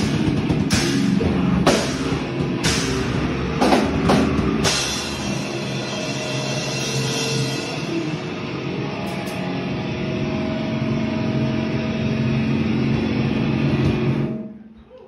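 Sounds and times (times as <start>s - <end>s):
distorted electric guitar droning: 0.0s - 14.7s.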